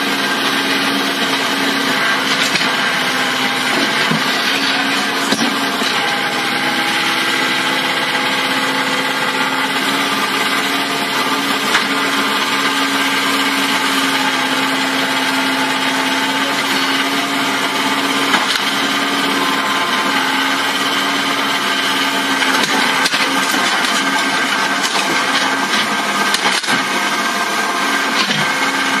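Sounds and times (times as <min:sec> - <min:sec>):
diesel engine running under load: 0:00.0 - 0:29.0.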